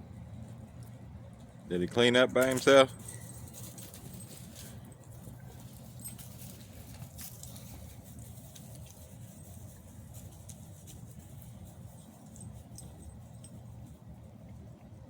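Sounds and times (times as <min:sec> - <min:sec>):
low steady hum: 0:00.0 - 0:15.0
puppies pattering and scuffling: 0:00.3 - 0:15.0.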